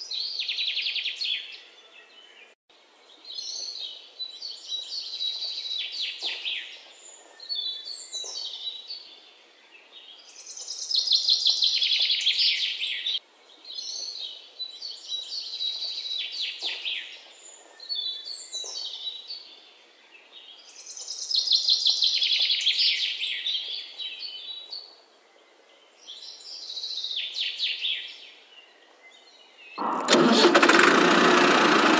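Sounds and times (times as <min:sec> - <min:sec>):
birds chirping and trilling: 0:00.0 - 0:30.1.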